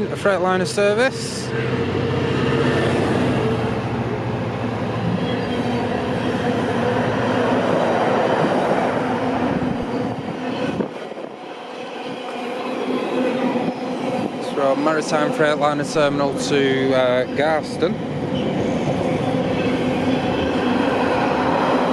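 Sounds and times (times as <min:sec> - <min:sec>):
diesel locomotive engine: 0:00.0 - 0:21.9.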